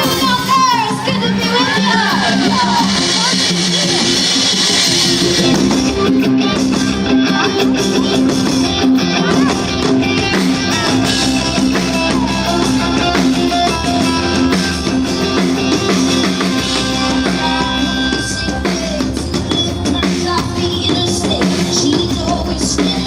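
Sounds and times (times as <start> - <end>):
drum kit: 0.0 - 23.0
guitar: 0.0 - 23.0.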